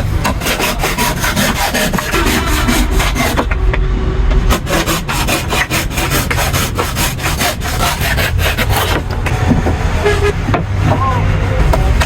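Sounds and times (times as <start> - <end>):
wood sawn by hand: 0.0 - 3.8, 4.4 - 12.0.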